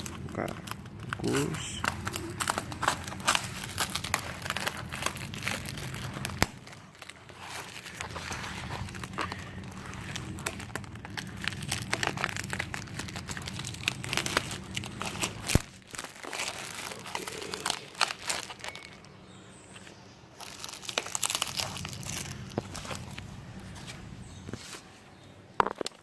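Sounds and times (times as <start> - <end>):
packaging wrap crinkling: 0.0 - 24.9.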